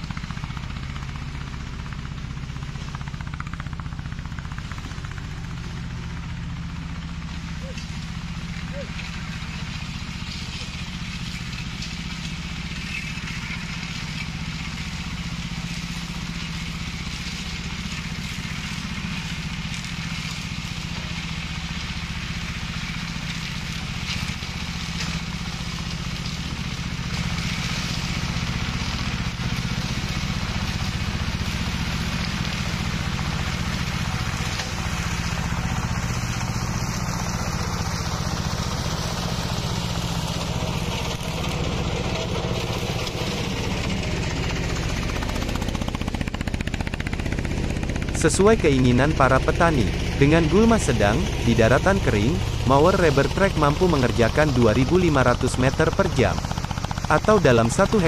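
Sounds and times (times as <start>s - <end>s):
brush mower engine running: 0.0s - 58.0s.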